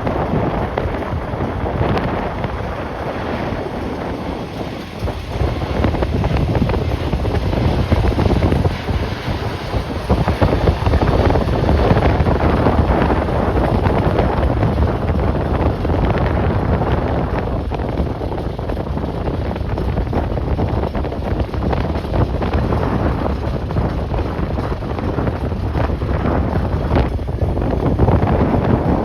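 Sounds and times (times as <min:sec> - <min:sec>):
gusty wind buffeting microphone: 0:00.0 - 0:29.0.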